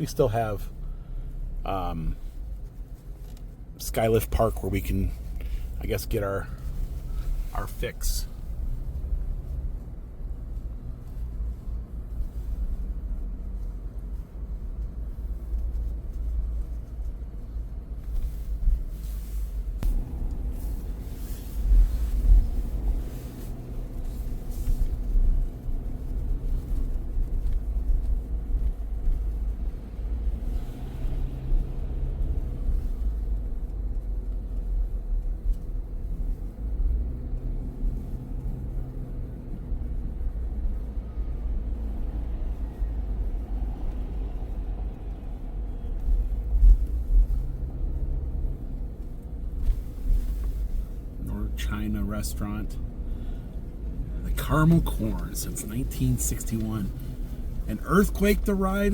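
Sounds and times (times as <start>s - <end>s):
car engine hum: 0.0s - 58.9s
car road rumble: 0.0s - 58.9s.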